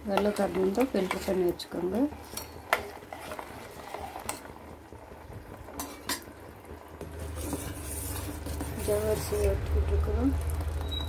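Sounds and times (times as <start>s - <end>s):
stirring in a pot: 0.0s - 11.0s
syrup simmering in a pot: 0.0s - 11.0s.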